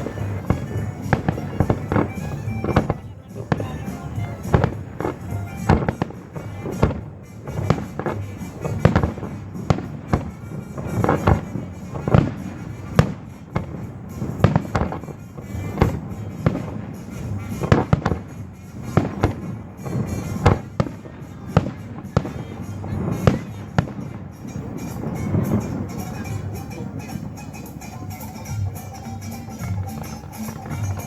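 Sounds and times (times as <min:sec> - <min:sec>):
fireworks bangs and crackles: 0:00.0 - 0:31.0
music for display: 0:00.0 - 0:31.0.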